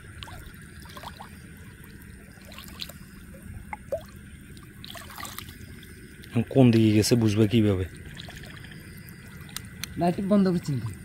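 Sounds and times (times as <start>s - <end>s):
small splashes: 0.0s - 10.0s
water dripping: 0.0s - 11.0s.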